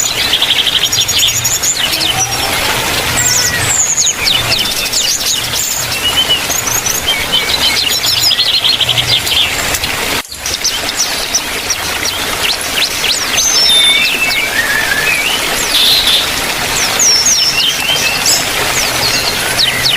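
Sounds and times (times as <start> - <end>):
lower whistled bird phrases: 0.0 - 9.6, 12.0 - 19.9
birds chirping and calling: 0.0 - 19.9
fast bird trill: 0.0 - 19.9.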